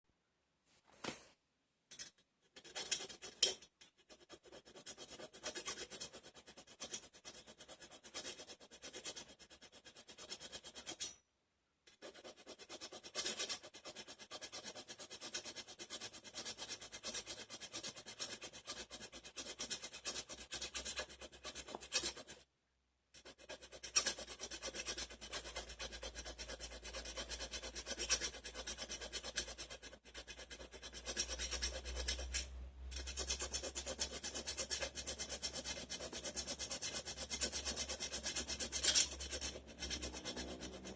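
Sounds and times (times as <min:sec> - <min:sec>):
file scraping metal blade: 0:01.9 - 0:11.2, 0:11.9 - 0:22.4, 0:23.2 - 0:40.9.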